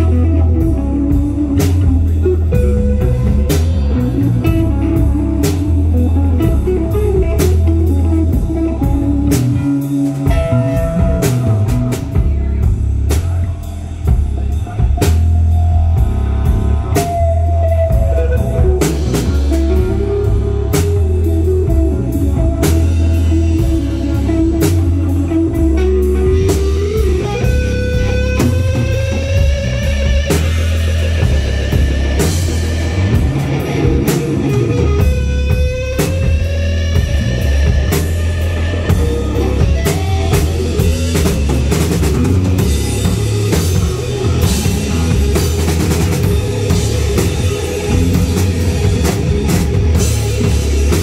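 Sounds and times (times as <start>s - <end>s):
bending electric guitar notes: 0.0s - 51.0s
live rock band playing: 0.0s - 51.0s.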